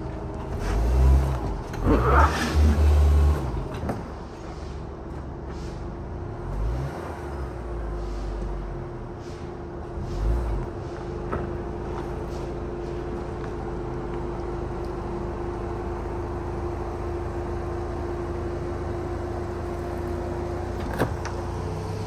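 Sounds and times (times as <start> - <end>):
car engine humming with whine: 0.0 - 22.0.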